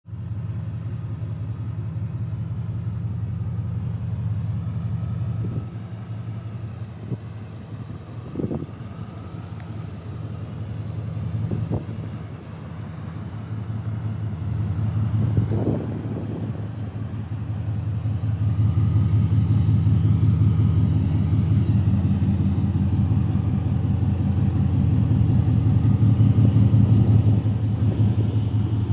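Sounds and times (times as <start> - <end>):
car engine rumbling: 0.0 - 28.9.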